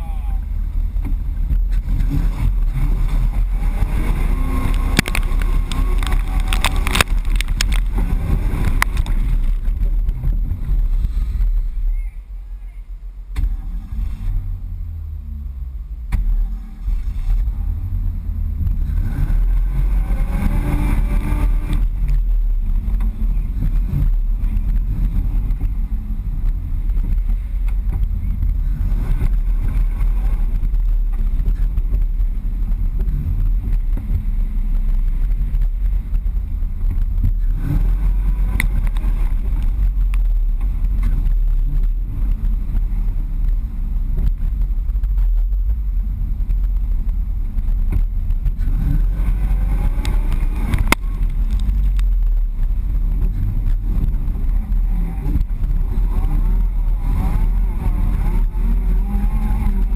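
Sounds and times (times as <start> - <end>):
engine deep rumble: 0.0 - 59.9.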